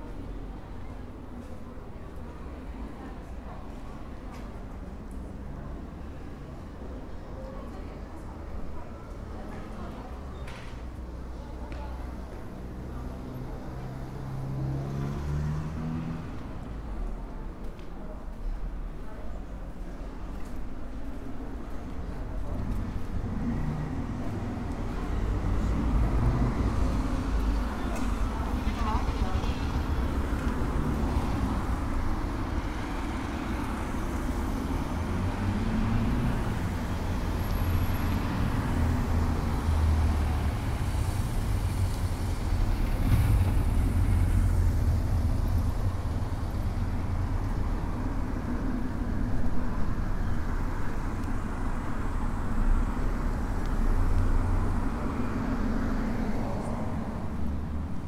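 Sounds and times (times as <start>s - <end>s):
cars going by: 0.0s - 17.9s, 20.0s - 58.0s.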